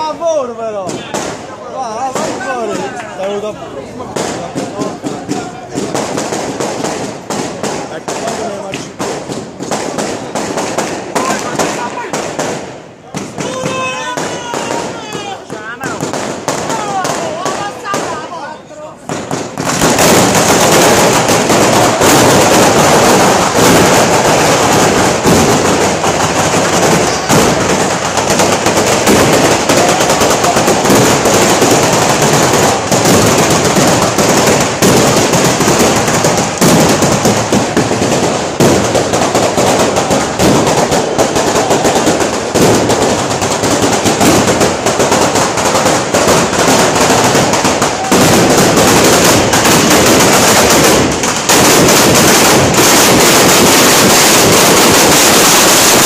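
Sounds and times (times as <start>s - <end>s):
firecrackers going off: 0.0s - 56.0s.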